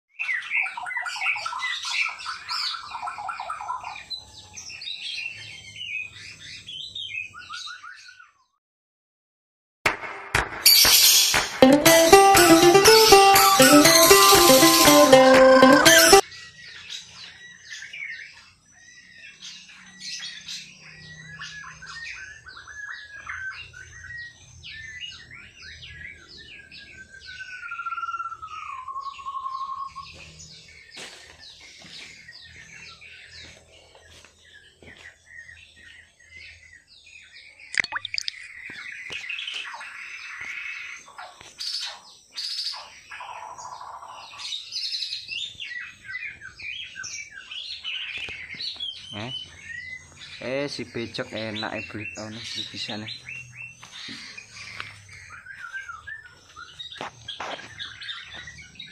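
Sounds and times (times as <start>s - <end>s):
birds singing high chirps: 0.2s - 8.6s, 16.2s - 58.9s.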